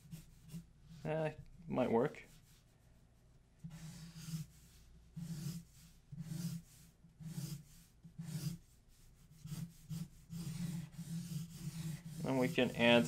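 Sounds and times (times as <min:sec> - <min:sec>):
marker scratching on paper: 0:00.0 - 0:13.0.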